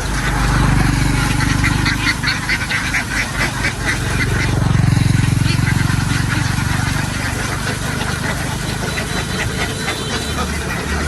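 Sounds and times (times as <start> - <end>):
engine idling: 0.0 - 11.0
flock of ducks quacking: 0.0 - 11.0.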